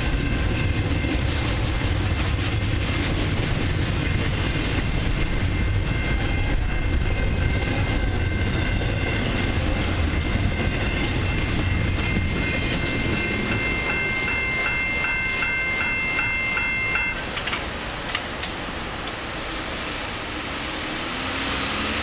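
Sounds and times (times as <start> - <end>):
crossing warning bell ringing: 0.0 - 18.8
freight train rumble: 0.0 - 22.0.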